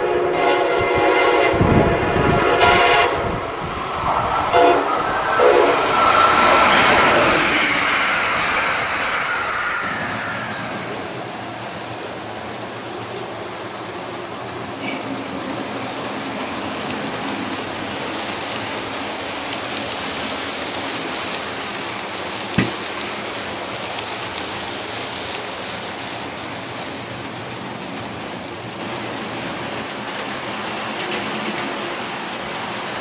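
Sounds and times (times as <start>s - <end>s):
model train motors whirring: 4.1s - 32.9s.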